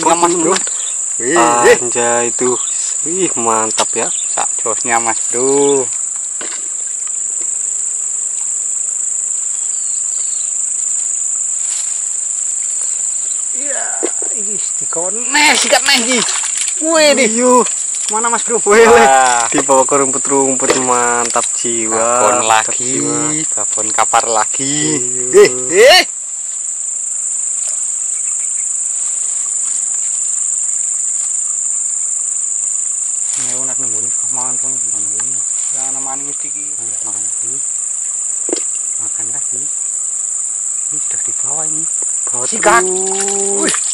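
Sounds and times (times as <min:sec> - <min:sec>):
insects buzzing drone: 0:00.0 - 0:43.9.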